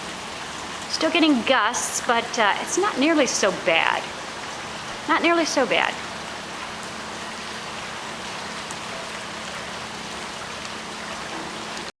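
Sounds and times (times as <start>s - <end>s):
light rain hissing: 0.0s - 11.9s.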